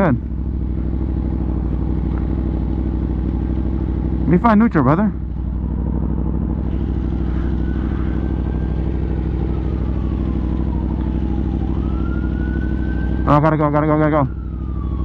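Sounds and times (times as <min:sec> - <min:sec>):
distant siren wailing: 0:00.0 - 0:04.2, 0:05.3 - 0:15.0
motorcycle engine idling: 0:00.0 - 0:15.0.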